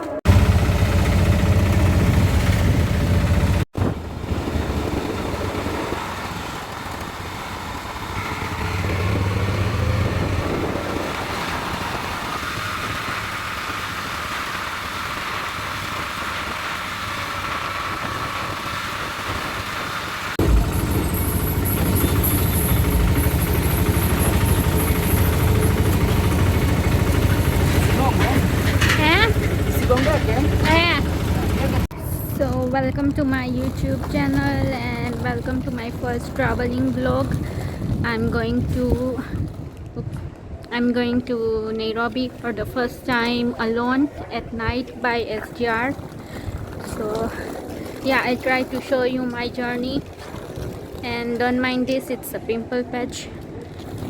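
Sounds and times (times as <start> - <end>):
low engine rumble: 0.0 - 50.0.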